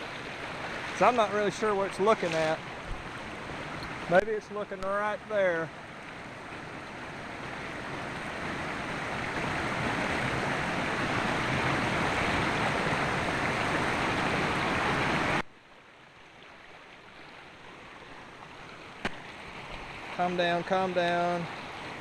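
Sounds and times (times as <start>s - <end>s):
quiet water sound: 0.0s - 22.0s
rushing river water: 0.0s - 22.0s.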